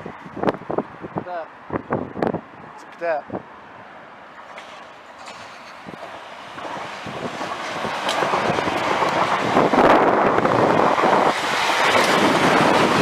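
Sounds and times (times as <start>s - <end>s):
train rumble and rail noise: 0.0s - 13.0s.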